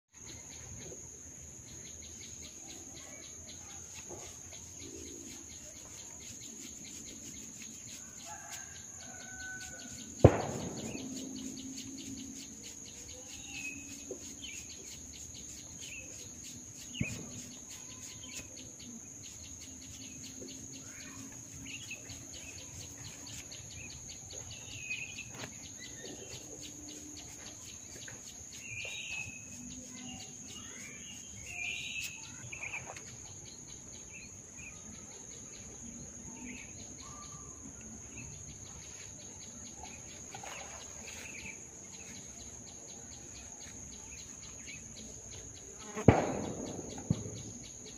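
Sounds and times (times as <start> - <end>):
high insect drone: 1.4 - 32.6, 33.4 - 47.9.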